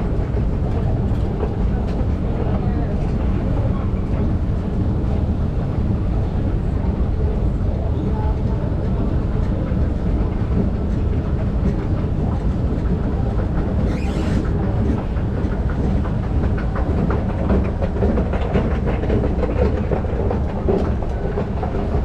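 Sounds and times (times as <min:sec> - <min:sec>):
station low rumble: 0:00.0 - 0:22.0.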